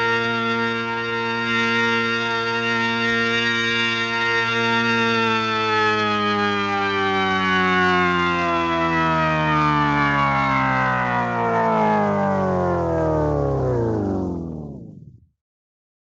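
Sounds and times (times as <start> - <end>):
droning tone sliding down: 0.0 - 15.3.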